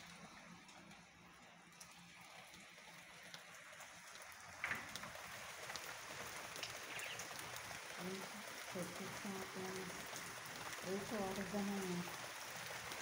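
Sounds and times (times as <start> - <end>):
light rain hiss: 0.0 - 13.0
raindrop ticks: 0.0 - 13.0.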